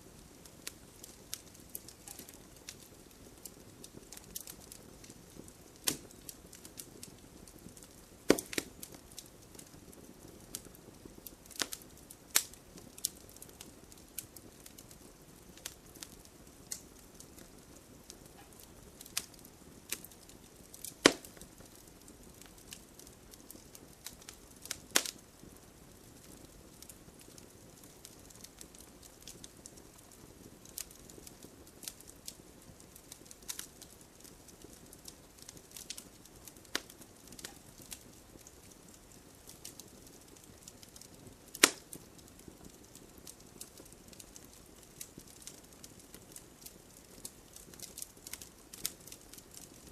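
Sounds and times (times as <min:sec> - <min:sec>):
campfire crackling and popping: 0:00.0 - 0:49.9
hiss of burning fire: 0:00.0 - 0:49.9.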